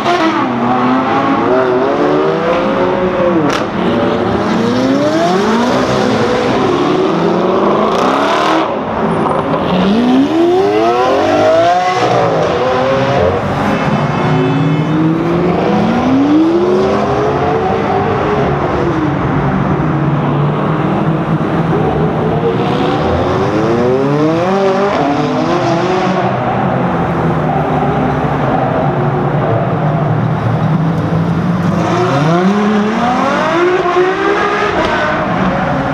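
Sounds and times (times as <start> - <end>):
car engines revving in a tunnel: 0.0 - 35.9.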